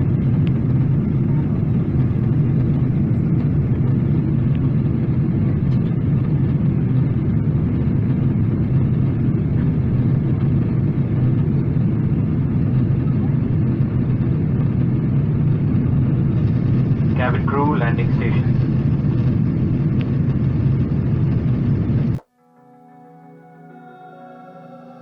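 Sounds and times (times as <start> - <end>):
airliner cabin rumble: 0.0 - 22.2.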